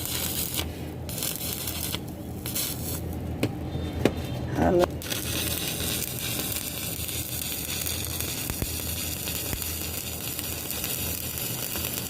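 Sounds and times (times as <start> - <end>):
welding arc sizzling and crackling: 0.0 - 3.3, 4.9 - 12.0.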